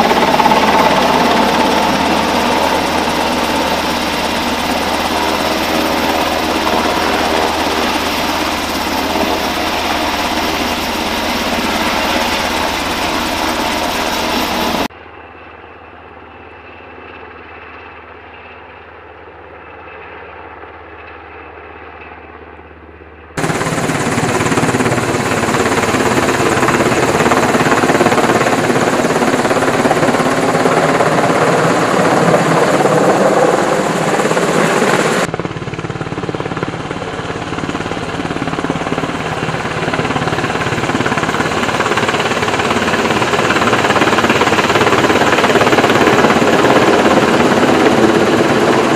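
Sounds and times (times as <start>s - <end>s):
helicopter rotors: 0.0s - 48.9s.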